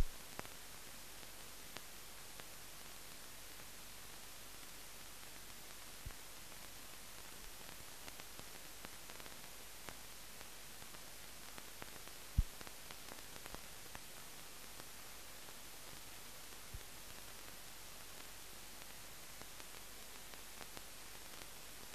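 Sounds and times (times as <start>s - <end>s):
film soundtrack hiss: 0.0s - 21.9s.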